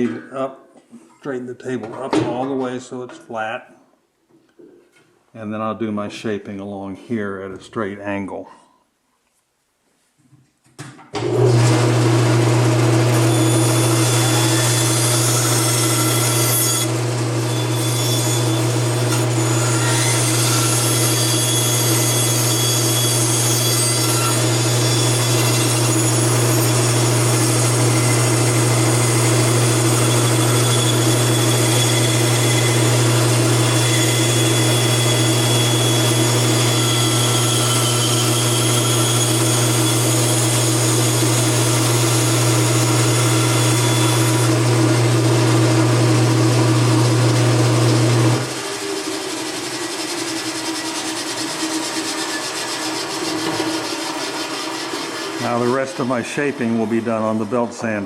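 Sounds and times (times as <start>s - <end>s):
bandsaw cutting wood: 11.2s - 58.0s.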